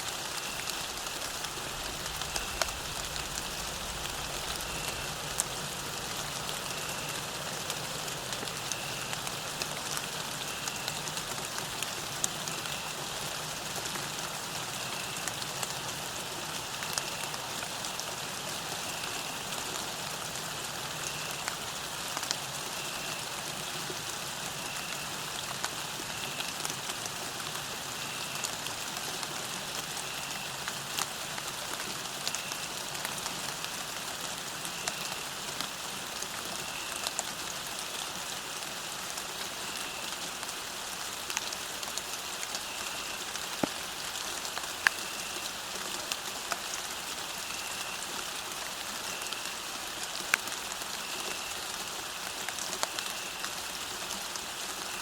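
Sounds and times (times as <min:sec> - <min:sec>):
rain falling on a path: 0:00.0 - 0:55.0.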